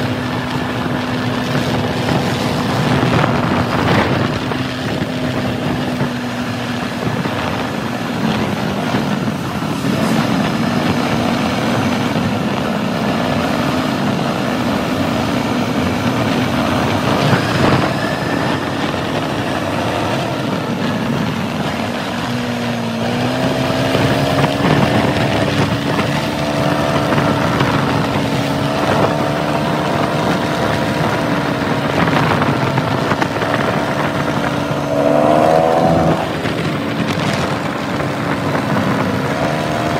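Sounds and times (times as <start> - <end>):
quad engine running: 0.0 - 39.9
wind and road noise: 0.0 - 39.9.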